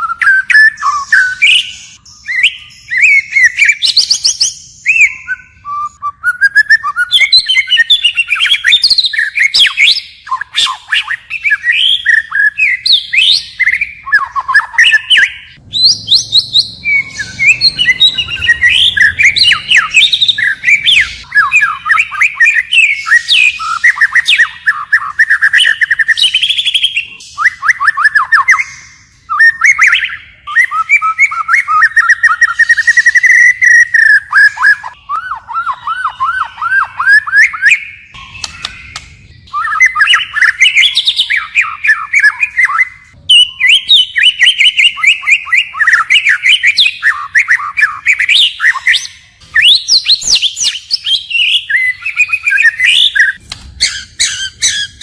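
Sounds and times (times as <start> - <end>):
bird singing trilled phrases: 0.0 - 55.0.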